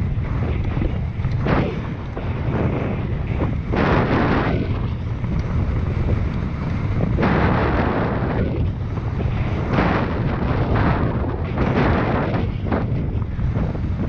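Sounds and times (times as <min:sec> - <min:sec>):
bike rattling over rocky trail: 0:00.0 - 0:14.0
wind buffeting microphone: 0:00.0 - 0:14.0.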